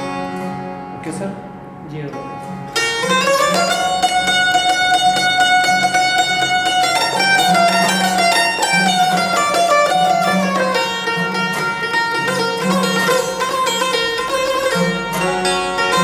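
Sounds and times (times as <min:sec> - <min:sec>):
string instrument melody: 0:00.0 - 0:16.0.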